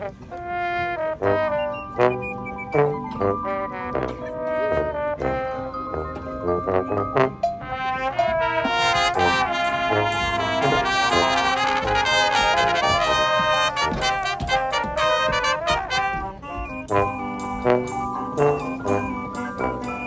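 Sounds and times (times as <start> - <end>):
brass chords: 0.0 - 20.0.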